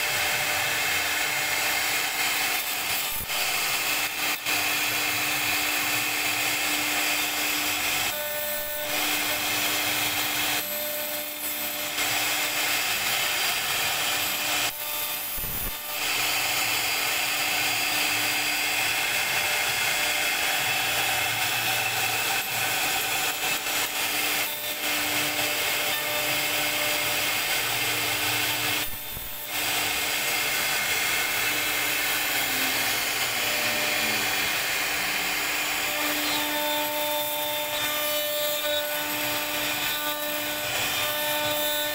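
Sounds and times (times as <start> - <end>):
bit rasping into wood: 0.0 - 41.9
router spindle humming: 0.0 - 41.9.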